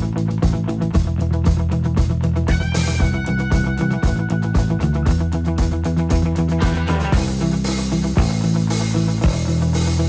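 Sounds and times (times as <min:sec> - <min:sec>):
bass notes: 0:00.0 - 0:10.0
guitar: 0:00.0 - 0:10.0.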